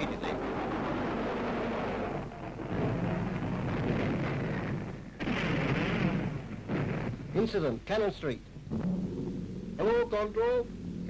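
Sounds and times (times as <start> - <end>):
bomb explosion: 0.0 - 11.0
rumbling of bombing raid: 0.0 - 11.0.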